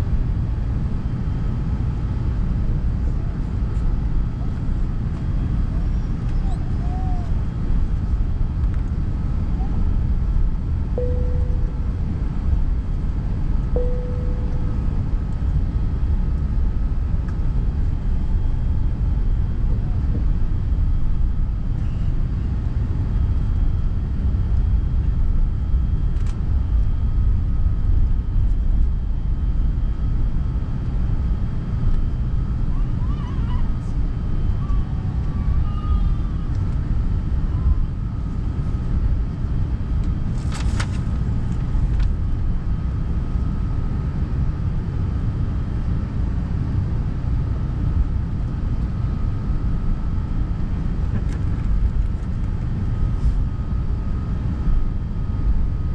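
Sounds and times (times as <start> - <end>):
aircraft cabin engine rumble: 0.0 - 55.9
thin steady whine: 7.7 - 55.9.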